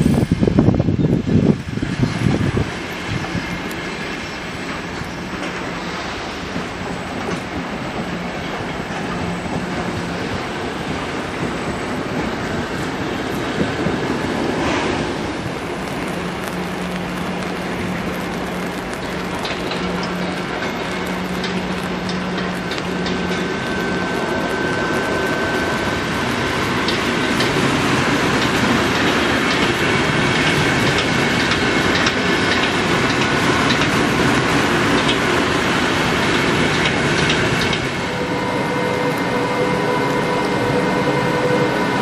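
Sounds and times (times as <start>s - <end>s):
wheels clicking over rail joints: 0.0s - 38.4s
locomotive humming and whining: 0.0s - 42.0s
train rumbling past: 0.0s - 42.0s.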